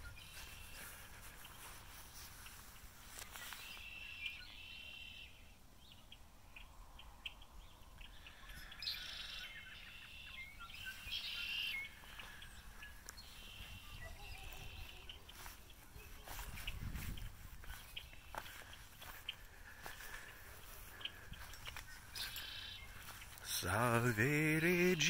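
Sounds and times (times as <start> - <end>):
faint outdoor background noise: 0.0 - 25.0
songbirds trilling: 0.0 - 25.0.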